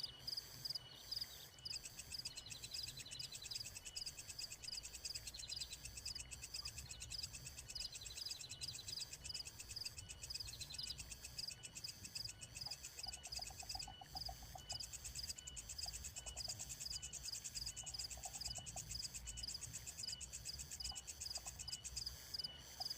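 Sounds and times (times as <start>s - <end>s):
crickets chirping: 0.0s - 22.9s
lower pulsed insect trills: 0.0s - 22.9s.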